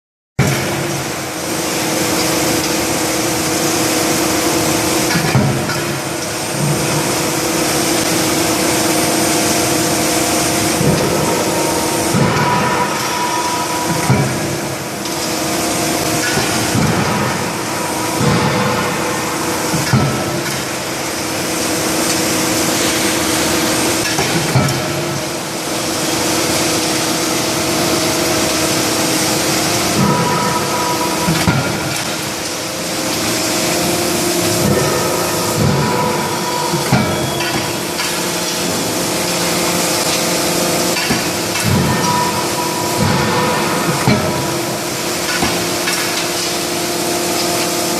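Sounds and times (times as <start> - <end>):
forging hammer machine drone: 0.4 - 47.9.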